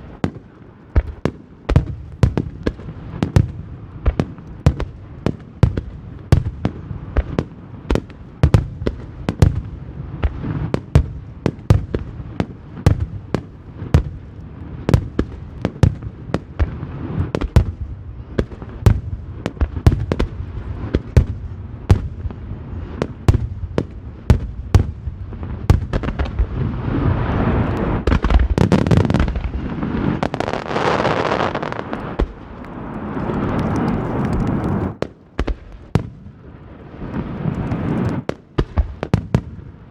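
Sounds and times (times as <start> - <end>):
fireworks bursting: 0.0 - 39.6.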